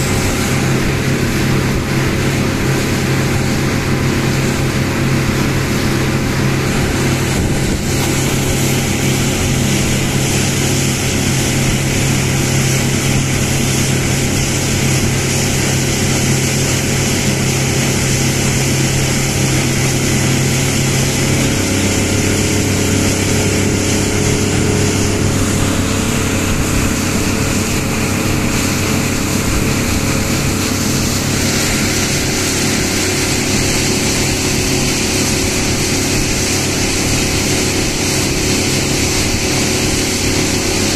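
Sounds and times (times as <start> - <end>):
motorboat engine running: 0.0 - 40.9
rushing water: 0.0 - 40.9
wind: 0.0 - 40.9.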